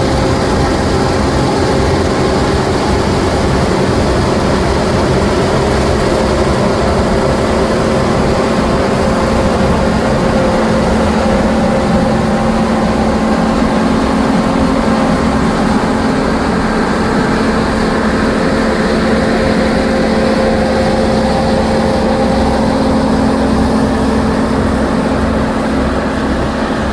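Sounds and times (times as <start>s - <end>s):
combine harvester drone: 0.0s - 26.9s.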